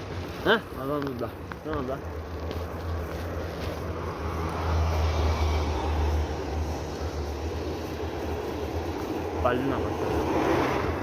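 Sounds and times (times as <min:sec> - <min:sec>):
road and wind noise: 0:00.0 - 0:11.0
low engine hum: 0:01.5 - 0:11.0.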